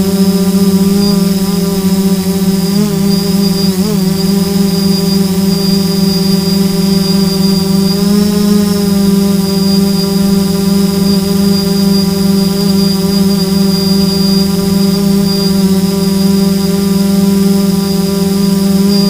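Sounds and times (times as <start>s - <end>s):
drone motors humming: 0.0s - 19.0s
high propeller whine: 0.0s - 19.0s.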